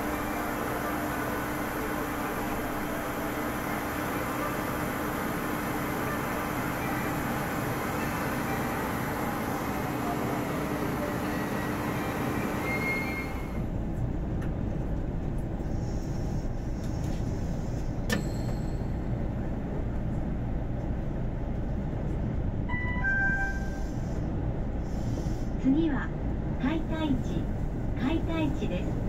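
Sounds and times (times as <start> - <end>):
locomotive passing on rails: 0.0 - 29.0
low train rumble: 0.0 - 29.0.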